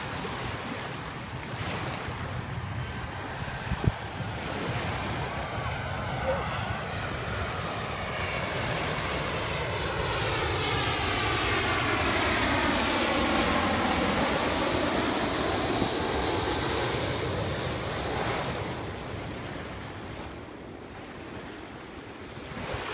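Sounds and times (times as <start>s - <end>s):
jet airliner flying overhead: 0.0s - 22.9s.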